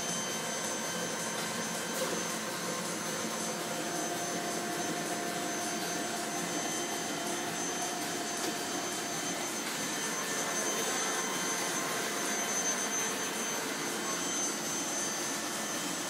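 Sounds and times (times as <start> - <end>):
faint mechanical whines: 0.0 - 16.0
printing press whirring: 0.0 - 16.0.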